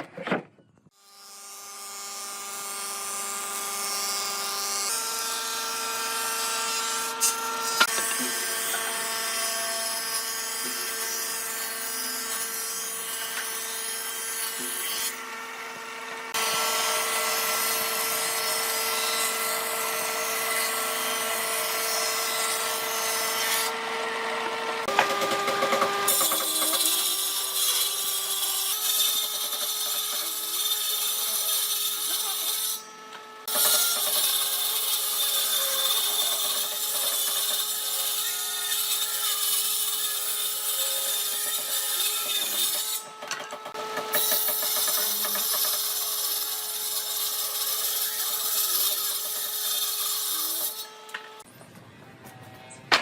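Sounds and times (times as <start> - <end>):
power tool cutting wood: 0.9 - 51.5.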